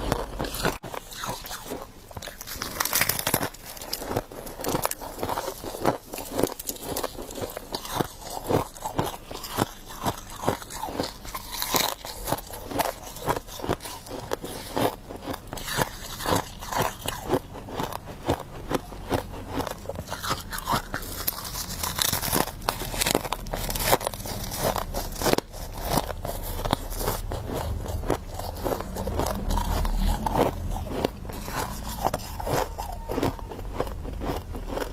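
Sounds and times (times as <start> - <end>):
person crunching frost: 0.0 - 34.9.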